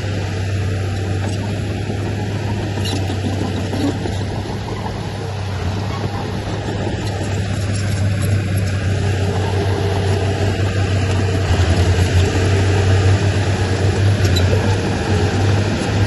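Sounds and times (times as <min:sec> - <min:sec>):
heavy machinery diesel engine running: 0:00.0 - 0:16.0.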